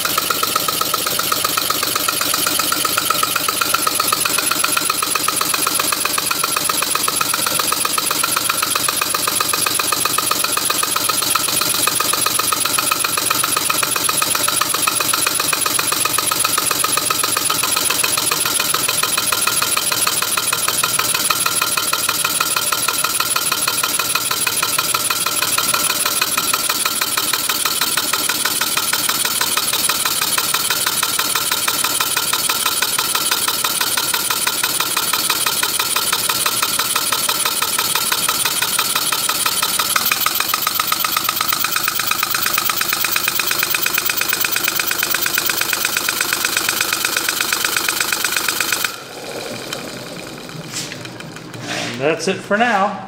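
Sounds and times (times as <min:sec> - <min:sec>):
model engine chuffing air: 0:00.0 - 0:52.4.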